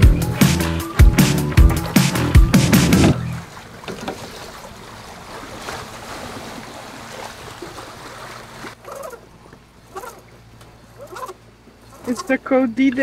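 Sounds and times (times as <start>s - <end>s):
water rushing past boat: 0.0s - 12.4s.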